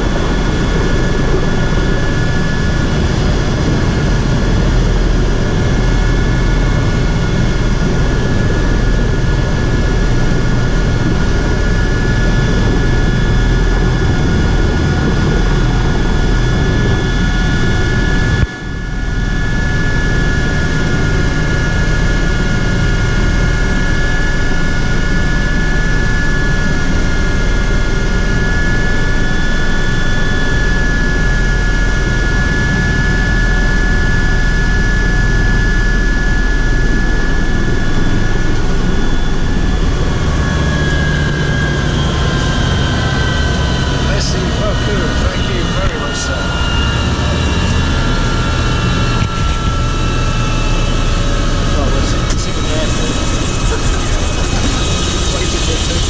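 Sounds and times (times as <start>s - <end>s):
helicopter rotor and turbine: 0.0s - 56.0s
high turbine whine: 0.0s - 56.0s.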